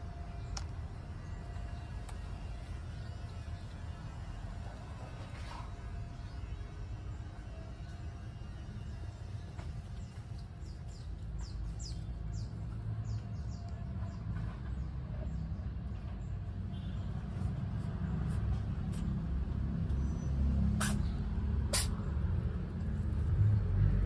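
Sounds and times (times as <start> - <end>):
low rumble of traffic: 0.0 - 24.0.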